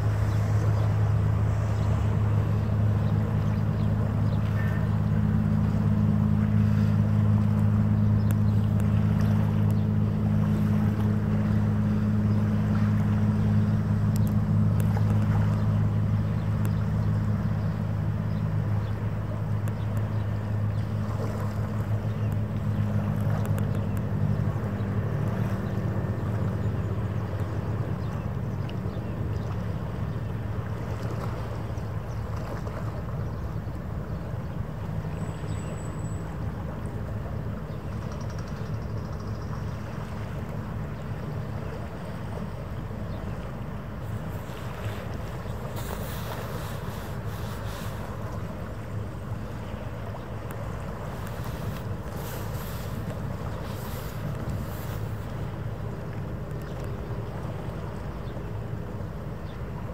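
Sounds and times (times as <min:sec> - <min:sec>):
marine engines droning: 0:00.0 - 0:59.9.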